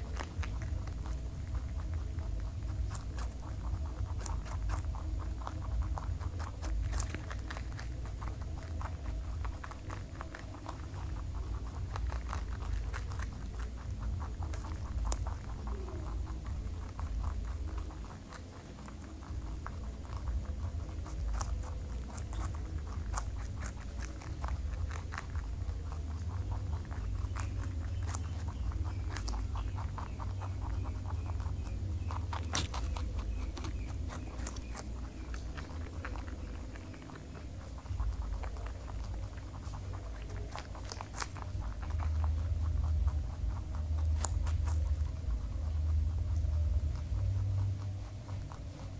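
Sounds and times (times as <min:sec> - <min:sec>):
low steady hum: 0:00.0 - 0:48.9
rabbits crunching carrot: 0:00.0 - 0:48.9.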